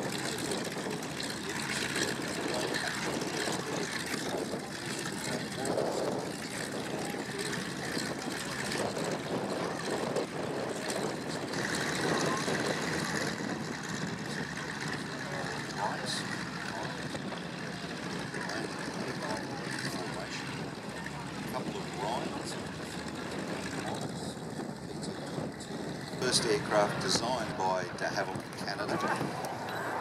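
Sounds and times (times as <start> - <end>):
radial aircraft engines idling: 0.0 - 30.0.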